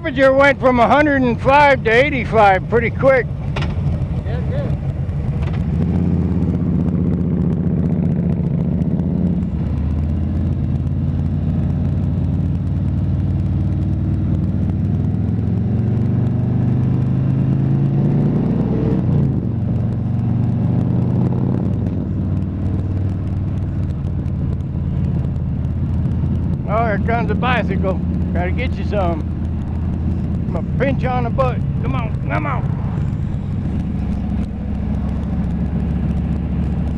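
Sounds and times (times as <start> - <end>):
motorcycle engine: 0.0 - 36.9.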